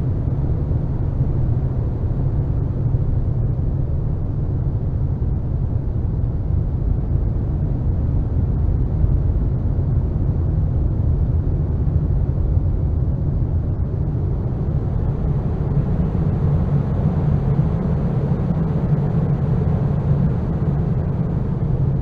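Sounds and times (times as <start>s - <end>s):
deep ambient rumbling drone: 0.0s - 22.0s.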